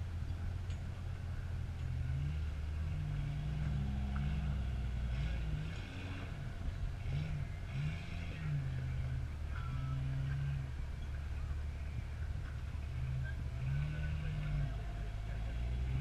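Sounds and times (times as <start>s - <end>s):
off-road engine under load: 0.0s - 16.0s.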